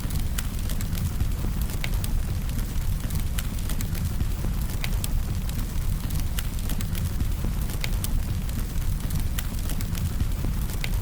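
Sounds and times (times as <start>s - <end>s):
fire crackling and popping: 0.0s - 11.0s
low rumble of flame: 0.0s - 11.0s.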